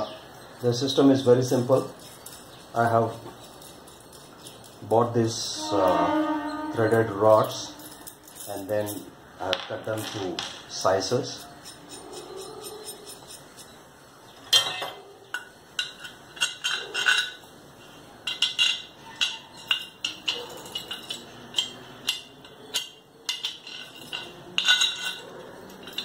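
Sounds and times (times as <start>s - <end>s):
metal hardware clinking: 0.6s - 6.0s, 6.6s - 13.8s, 14.4s - 17.5s, 18.2s - 26.0s.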